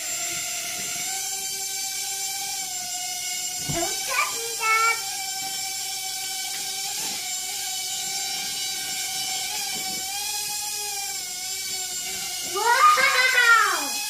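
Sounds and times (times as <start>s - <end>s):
toy drone propellers whining: 0.0s - 14.0s.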